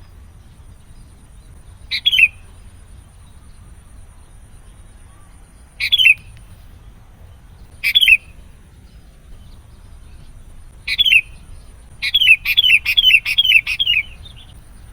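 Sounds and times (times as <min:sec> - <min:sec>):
bulbul calling: 0:00.0 - 0:04.0, 0:05.6 - 0:14.9.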